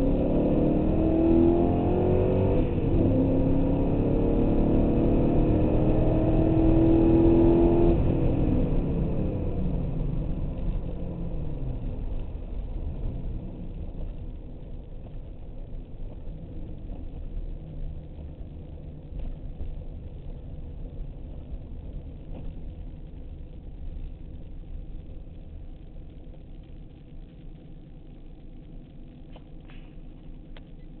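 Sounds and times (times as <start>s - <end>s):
car engine low rumble: 0.0s - 31.0s.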